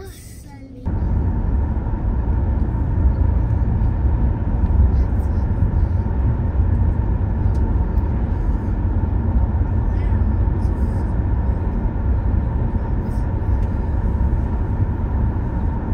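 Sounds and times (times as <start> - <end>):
car road and engine rumble: 0.0 - 15.9.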